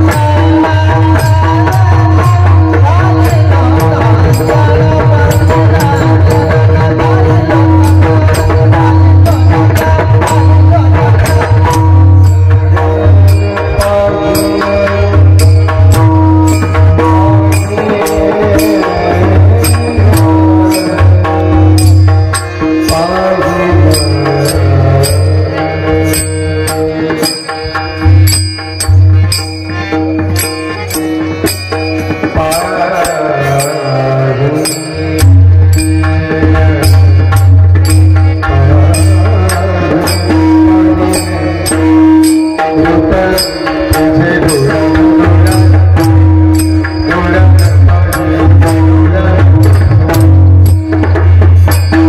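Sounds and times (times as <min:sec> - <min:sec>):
person singing: 0:00.0 - 0:27.5, 0:28.3 - 0:52.0
drum: 0:00.0 - 0:33.9, 0:34.6 - 0:52.0
hand cymbals striking: 0:00.0 - 0:52.0.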